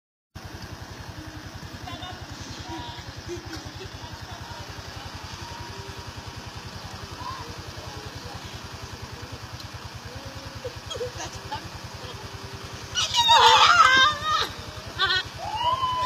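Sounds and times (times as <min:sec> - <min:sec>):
small engine idling: 0:00.4 - 0:16.0.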